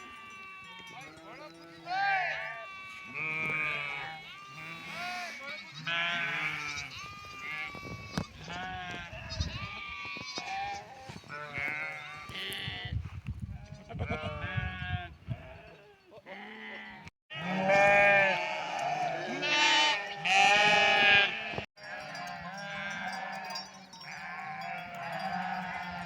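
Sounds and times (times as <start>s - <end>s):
sheep bleating: 0.0s - 12.9s, 13.6s - 26.0s.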